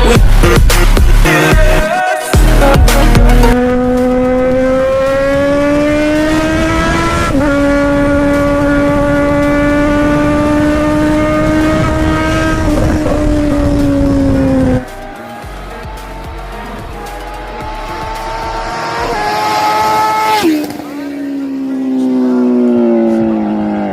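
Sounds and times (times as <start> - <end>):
motorcycle engine accelerating: 2.4 - 23.9.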